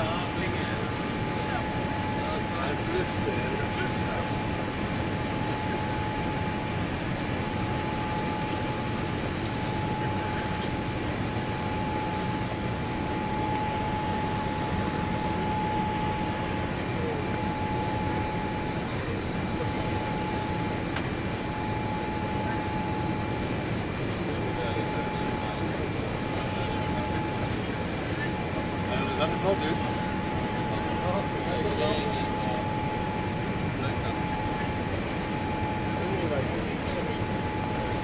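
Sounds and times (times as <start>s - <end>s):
airplane cabin engine rush: 0.0s - 38.0s
steady whine: 0.0s - 38.0s.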